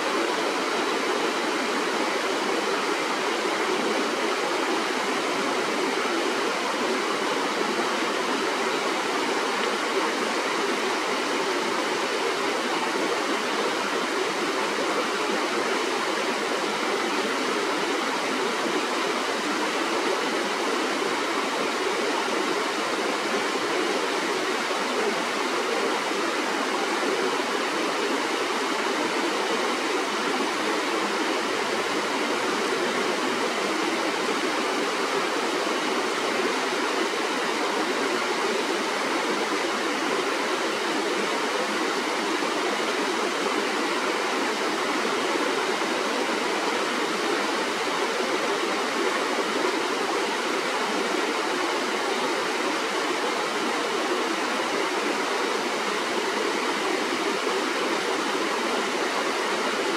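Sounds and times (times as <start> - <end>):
shallow stream flowing: 0.0 - 59.9.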